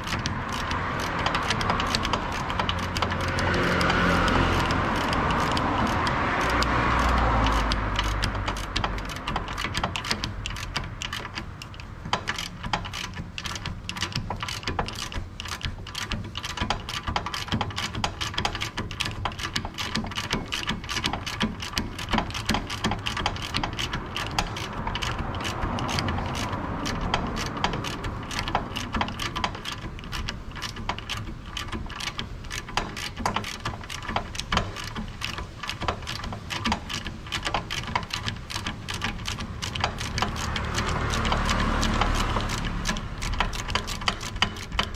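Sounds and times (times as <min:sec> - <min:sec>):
ratchet wrench clicking: 0:00.0 - 0:44.9.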